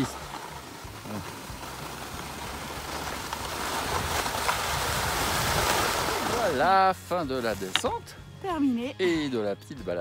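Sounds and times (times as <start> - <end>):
skis sliding on packed snow: 0.0 - 8.1.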